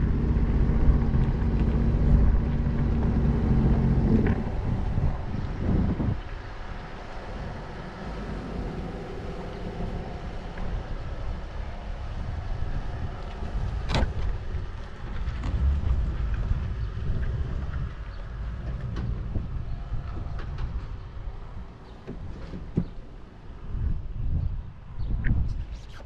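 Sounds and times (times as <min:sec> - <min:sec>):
jet ski engine idling: 0:00.0 - 0:22.1
wind buffeting microphone: 0:00.0 - 0:26.0.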